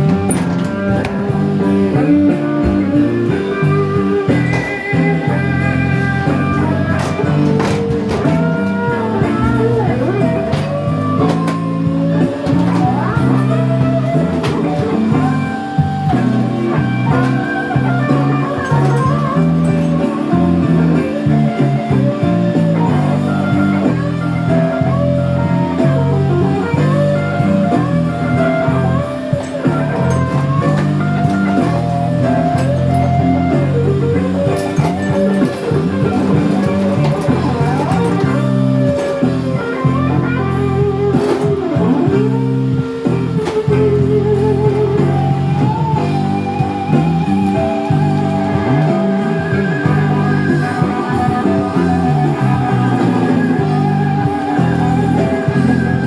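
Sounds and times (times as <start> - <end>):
bass and rhythm backing: 0.0 - 56.0
electric lead guitar bending notes: 0.0 - 56.0.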